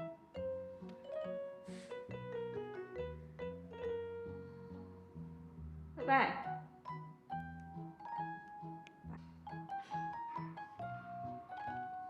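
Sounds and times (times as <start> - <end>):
light piano melody: 0.0 - 12.0.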